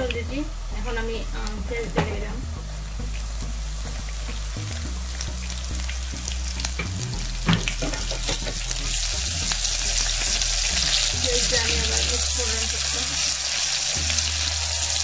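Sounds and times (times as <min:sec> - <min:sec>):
onion sizzling in hot oil: 0:00.0 - 0:15.0.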